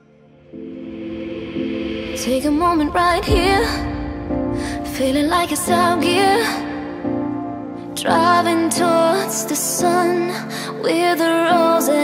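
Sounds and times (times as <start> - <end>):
pop music: 0.5 - 12.0
woman singing: 1.9 - 12.0.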